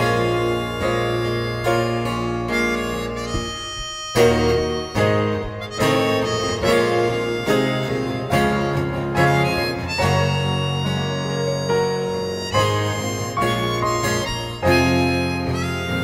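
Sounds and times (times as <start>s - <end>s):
acoustic guitar: 0.0s - 16.0s
harmonica melody: 0.0s - 16.0s
piano: 0.0s - 16.0s
shamisen: 0.0s - 16.0s.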